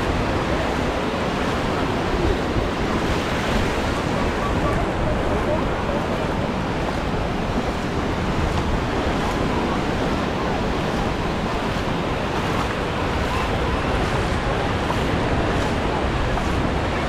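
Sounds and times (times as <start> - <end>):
surf washing: 0.0 - 17.0
wind on microphone: 0.0 - 17.0.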